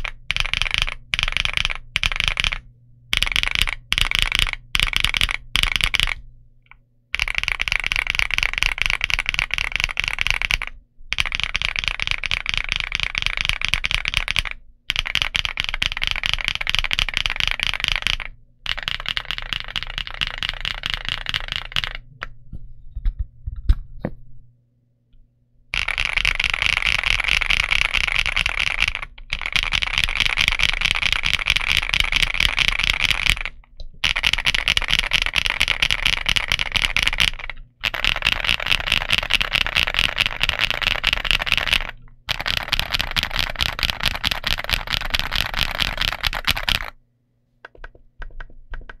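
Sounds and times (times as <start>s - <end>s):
fast typing on mechanical keyboard: 0.0s - 6.2s, 7.2s - 22.1s, 25.8s - 47.0s, 47.7s - 49.0s.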